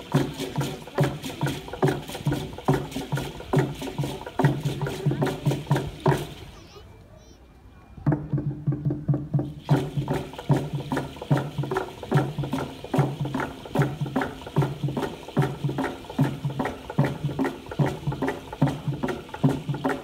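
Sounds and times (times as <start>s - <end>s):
percussion rattling: 0.0s - 6.7s, 8.0s - 20.0s
pitched drum beats: 0.0s - 6.8s, 8.0s - 20.0s.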